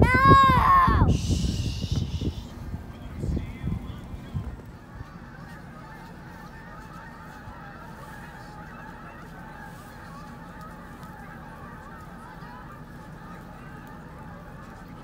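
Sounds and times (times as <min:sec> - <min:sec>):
low steady rumble: 0:00.0 - 0:15.0
geese honking: 0:00.6 - 0:15.0.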